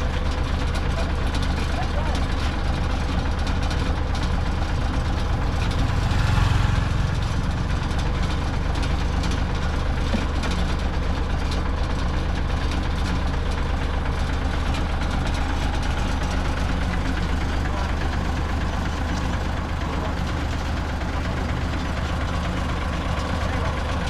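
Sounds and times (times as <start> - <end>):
heavy vehicle engine idling: 0.0 - 24.0.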